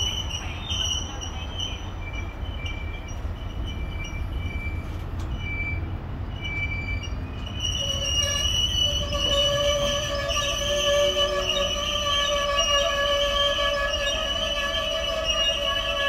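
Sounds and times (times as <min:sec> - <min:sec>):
freight train rumbling past: 0:00.0 - 0:16.0
train wheel squeals: 0:00.0 - 0:16.0.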